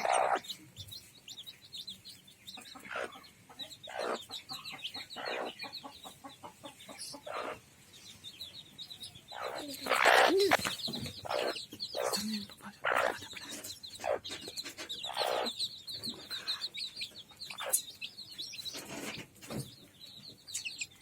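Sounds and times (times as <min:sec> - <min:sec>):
chicks peeping: 0:00.0 - 0:21.0
hen clucking: 0:00.0 - 0:21.0.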